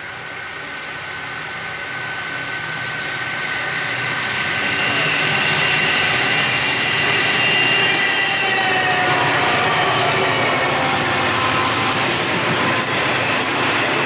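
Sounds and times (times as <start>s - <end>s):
diesel locomotive engine: 0.0s - 14.0s.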